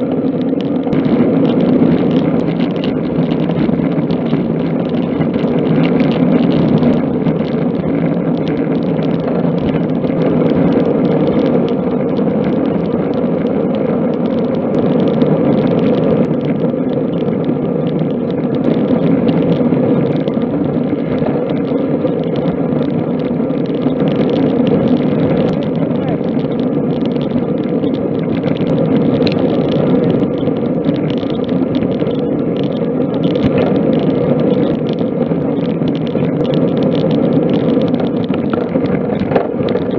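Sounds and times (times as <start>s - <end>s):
tyres on tarmac: 0.0s - 39.9s
wind rushing on microphone: 0.0s - 39.9s.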